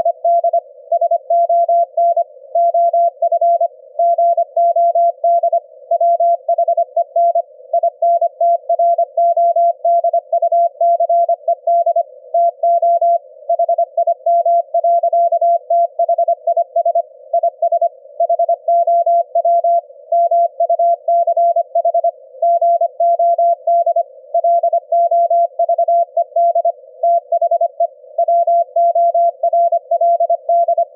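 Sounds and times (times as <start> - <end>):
morse code beeps: 0.0 - 30.9.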